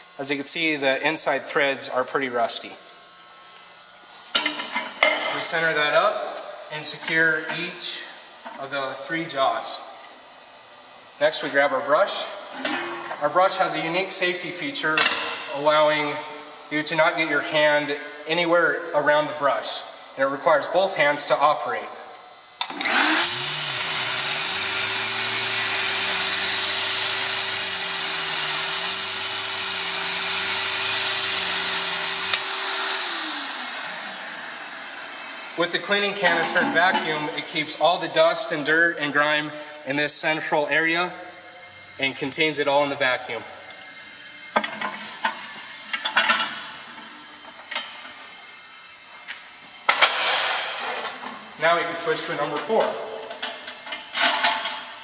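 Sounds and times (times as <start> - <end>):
brush tool and vacuum running: 0.0 - 55.0.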